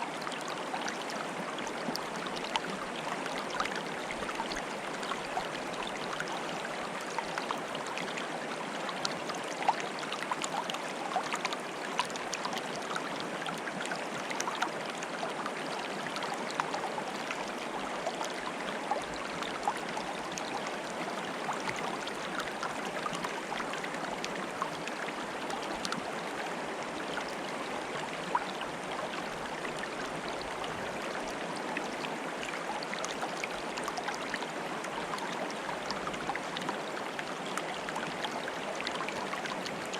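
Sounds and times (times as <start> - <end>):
flowing water bubbling: 0.1 - 39.9.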